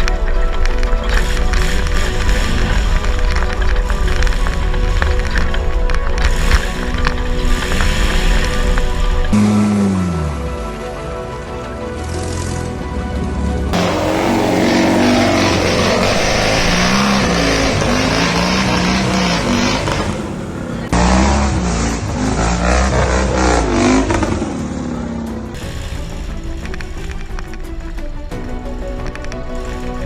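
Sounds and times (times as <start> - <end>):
vehicle engine revving: 1.0 - 10.7, 12.2 - 27.1.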